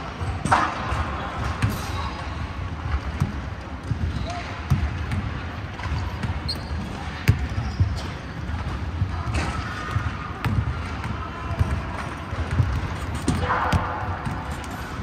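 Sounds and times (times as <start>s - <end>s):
basketballs bouncing on hardwood: 2.8s - 15.0s.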